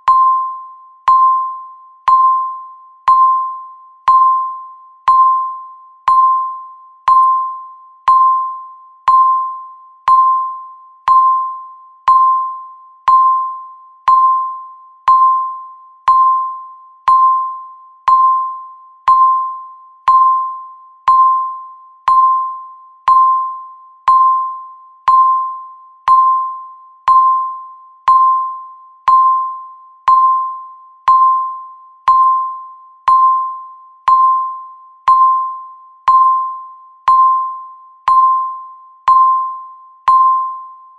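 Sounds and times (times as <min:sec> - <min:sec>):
countdown timer beeping: 0:00.0 - 0:40.7.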